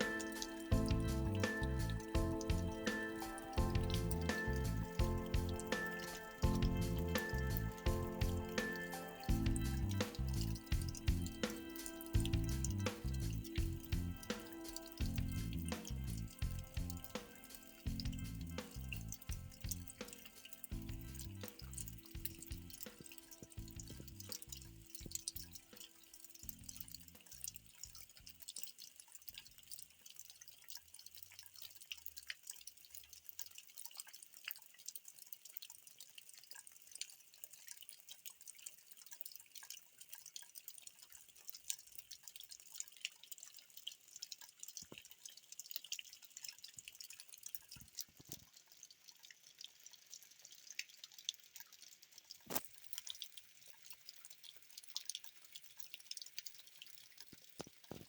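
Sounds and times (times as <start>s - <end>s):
rain patter: 0.0s - 58.0s.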